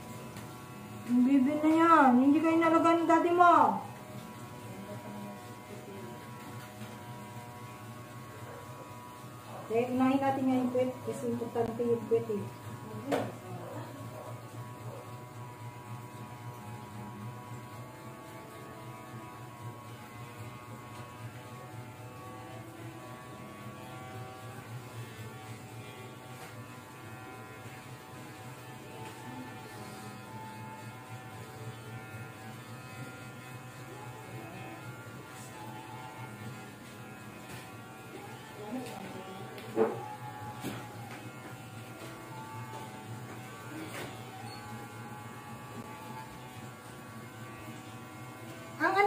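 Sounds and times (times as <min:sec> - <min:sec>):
electric clipper buzzing: 0:00.0 - 0:49.0.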